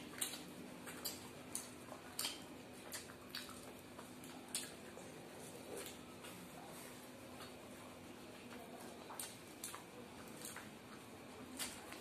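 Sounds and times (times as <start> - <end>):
faint low hum: 0.0 - 12.0
fingers tearing bread: 0.0 - 12.0
mouths chewing wet smacks: 0.0 - 12.0.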